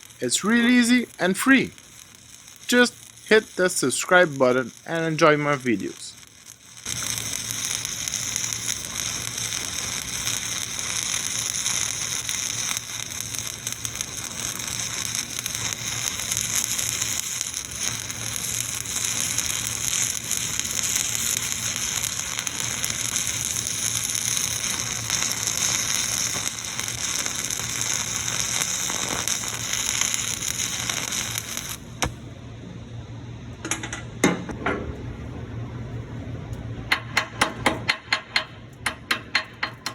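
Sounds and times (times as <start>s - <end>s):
welding arc crackling hiss: 0.0s - 32.3s, 36.9s - 39.9s.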